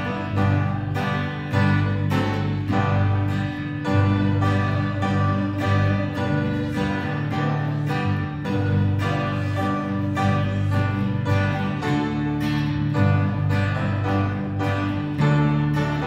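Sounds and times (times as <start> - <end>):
held bass notes: 0.0 - 16.0
steady run of notes: 0.0 - 16.0.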